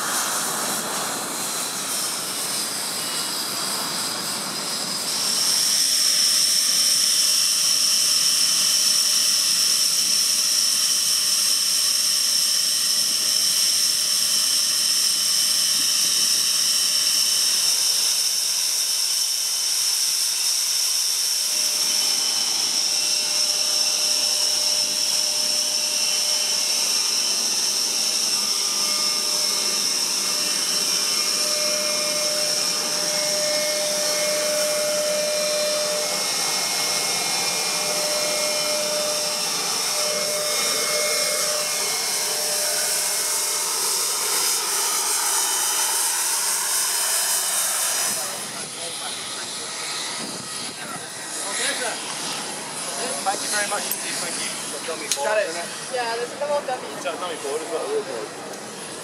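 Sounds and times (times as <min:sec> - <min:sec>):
jet engines idling whine: 0:00.0 - 0:59.0.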